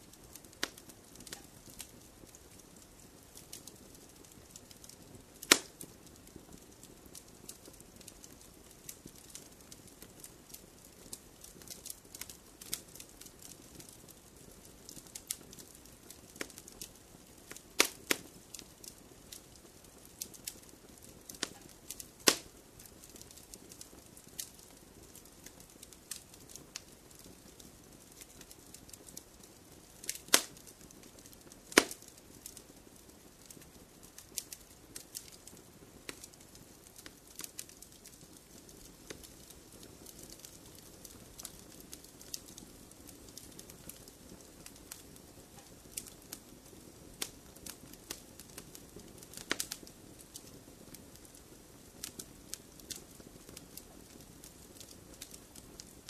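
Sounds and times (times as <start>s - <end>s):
fire crackling: 0.0s - 56.0s
fire popping: 0.0s - 56.0s.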